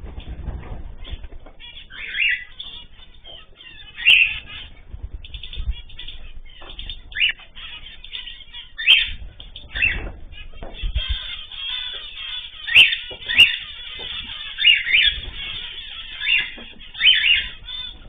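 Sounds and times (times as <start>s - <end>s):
caged birds chirping: 0.0s - 18.0s
wing flutters: 0.0s - 18.0s.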